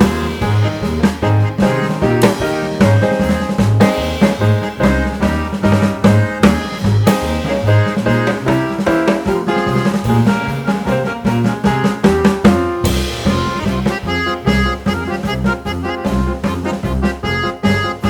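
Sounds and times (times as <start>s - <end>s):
drum-kit beat: 0.0s - 18.0s
held melodic notes: 0.0s - 18.0s.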